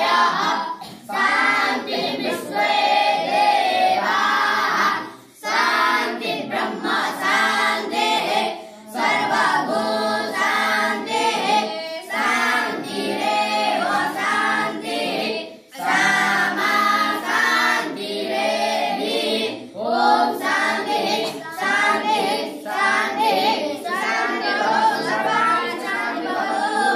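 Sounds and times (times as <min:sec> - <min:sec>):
young voices chanting in unison: 0:00.0 - 0:26.9.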